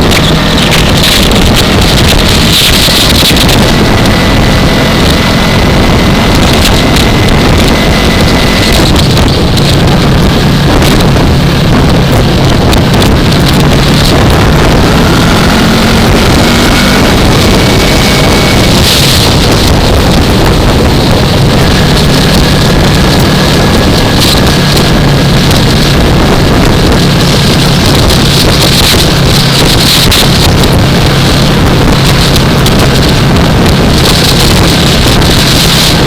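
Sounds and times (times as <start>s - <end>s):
motorcycle engine running: 0.0s - 36.0s
wind rushing over microphone: 0.0s - 36.0s.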